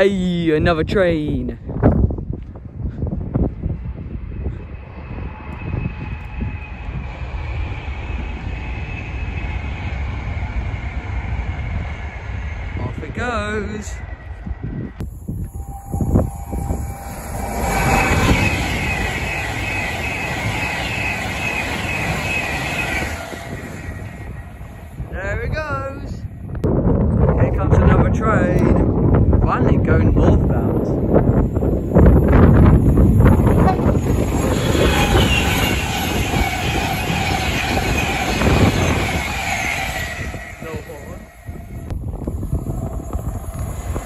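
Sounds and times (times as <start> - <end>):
high train whine: 0.0 - 44.0
train wheels rushing on rail: 1.7 - 44.0.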